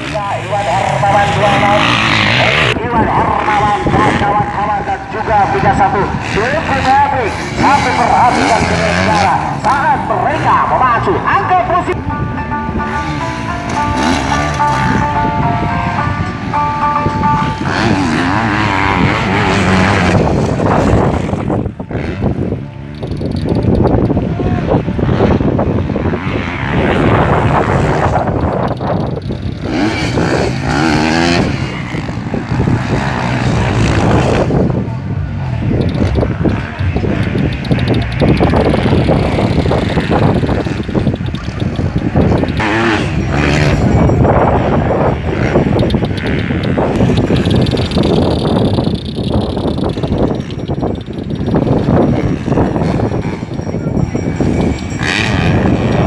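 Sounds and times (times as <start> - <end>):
motocross bike engines racing: 0.0 - 56.0.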